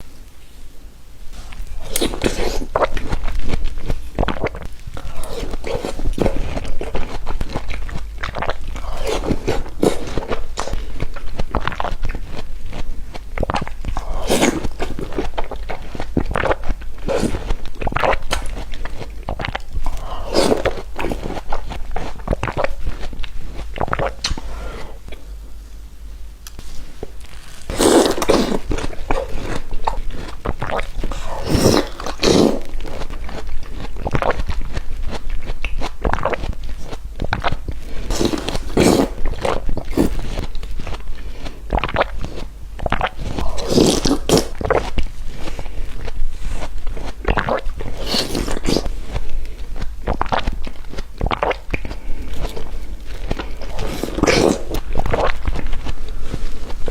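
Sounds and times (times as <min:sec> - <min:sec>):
person chewing crunchy food: 0:01.3 - 0:25.6, 0:26.5 - 0:56.9.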